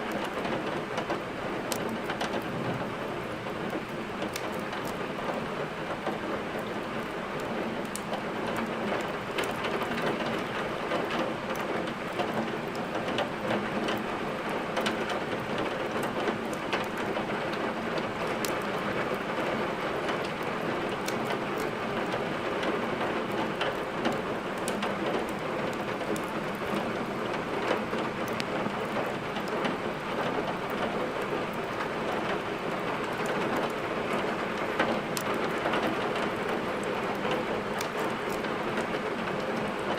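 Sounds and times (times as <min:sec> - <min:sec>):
heavy rain: 0:00.0 - 0:39.9
sharp crackles and ticks: 0:00.1 - 0:02.5, 0:03.7 - 0:14.1, 0:14.7 - 0:39.9.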